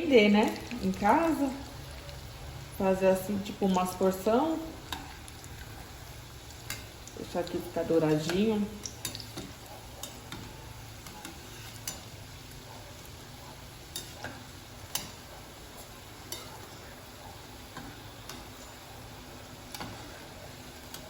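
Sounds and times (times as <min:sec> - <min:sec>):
food deep-frying in hot oil: 0:00.0 - 0:21.0
oil popping and crackling: 0:00.0 - 0:21.0.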